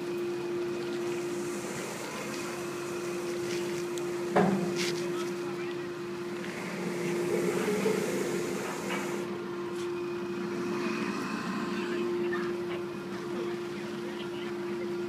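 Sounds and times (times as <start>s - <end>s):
motor running steadily: 0.0s - 15.0s.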